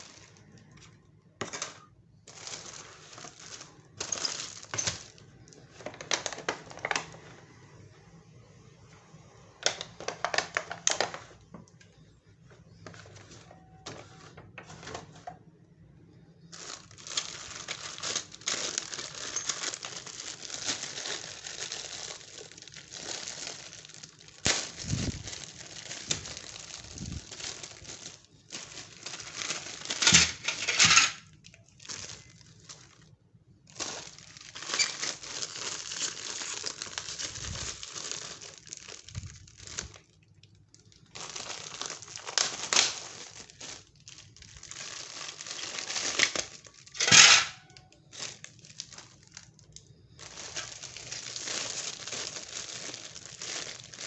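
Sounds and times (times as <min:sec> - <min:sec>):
plastic packaging crinkling: 0:00.0 - 0:07.6, 0:09.5 - 0:15.5, 0:16.1 - 0:54.0.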